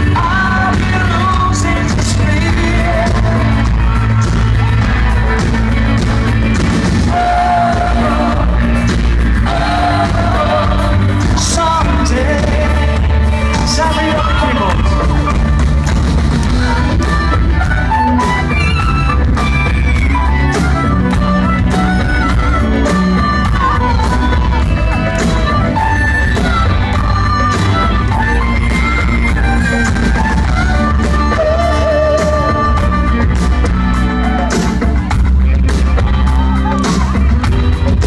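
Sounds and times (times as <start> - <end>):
drum kit: 0.0 - 38.0
electric guitars: 0.0 - 38.0
keyboards: 0.0 - 38.0.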